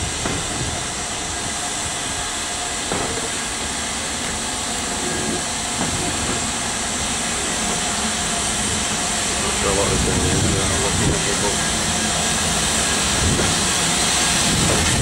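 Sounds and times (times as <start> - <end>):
steam hissing: 0.0 - 15.0
steam locomotive approaching: 0.0 - 15.0.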